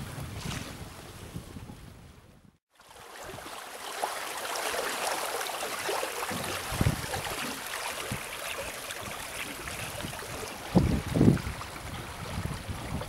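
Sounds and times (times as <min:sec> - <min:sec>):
water splashing along a hull: 0:00.0 - 0:13.0.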